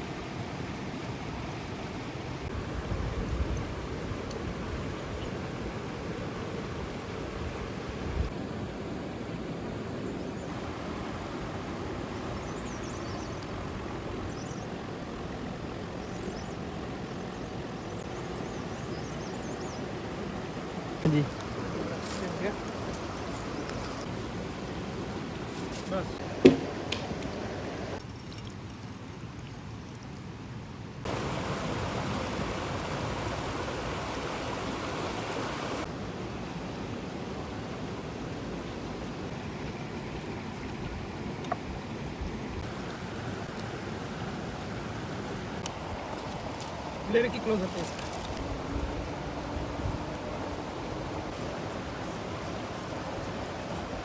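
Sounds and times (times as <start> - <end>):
rushing outdoor noise: 0.0 - 54.0.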